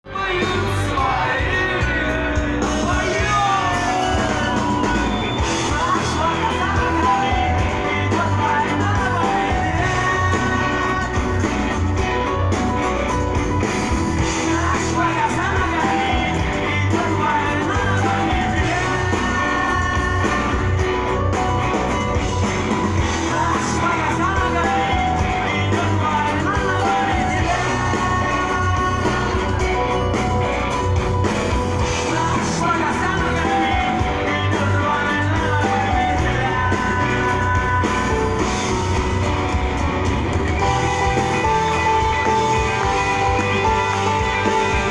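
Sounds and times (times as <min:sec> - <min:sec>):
rock song with singing: 0:00.0 - 0:44.9.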